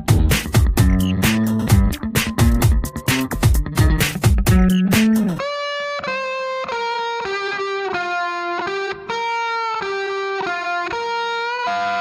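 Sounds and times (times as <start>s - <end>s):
slow guitar-like melody: 0.0s - 12.0s.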